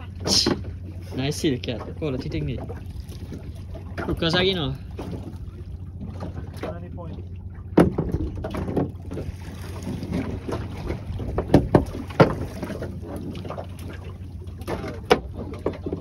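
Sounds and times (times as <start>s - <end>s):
boat low rumble: 0.0s - 16.0s
wind: 0.0s - 16.0s.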